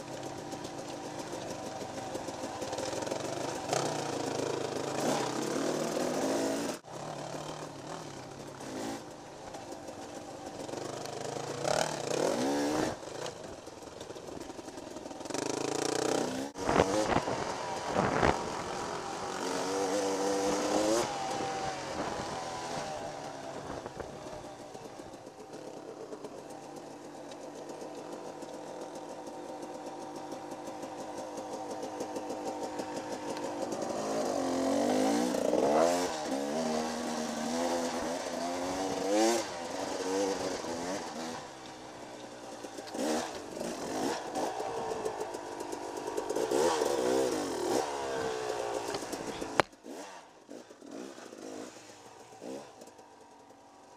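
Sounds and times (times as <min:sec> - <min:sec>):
dirt bike engine revving: 0:00.0 - 0:09.3, 0:10.1 - 0:13.4, 0:14.2 - 0:53.7.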